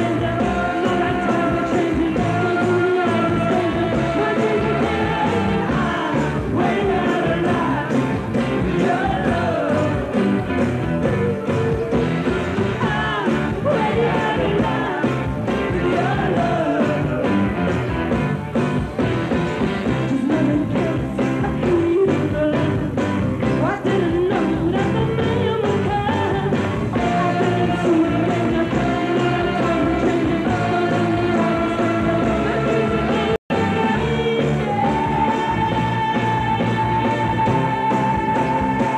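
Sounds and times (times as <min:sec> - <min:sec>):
woman singing: 0:00.0 - 0:10.3, 0:12.8 - 0:17.3, 0:20.0 - 0:38.9
rock band playing: 0:00.0 - 0:38.9.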